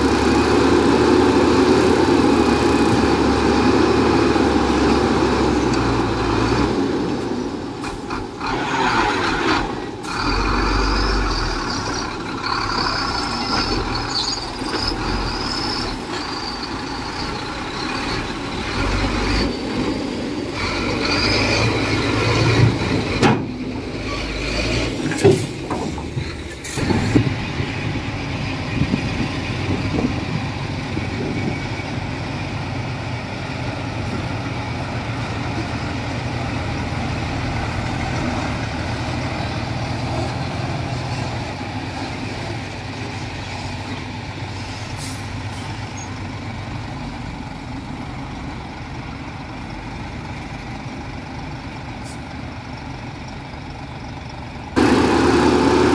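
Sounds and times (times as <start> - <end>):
diesel engine of heavy machinery: 0.0 - 55.9.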